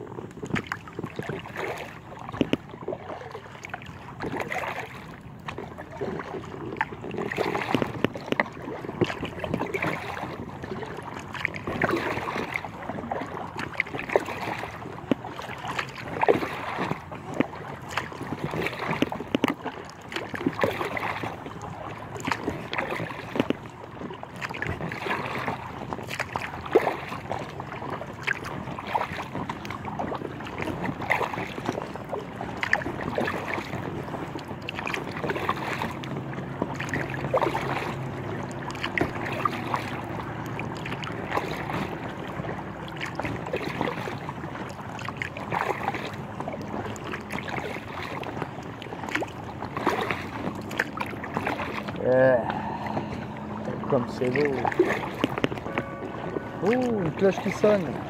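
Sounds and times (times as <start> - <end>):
paddle strokes splashing: 0.0 - 58.0
water lapping against hull: 0.0 - 58.0.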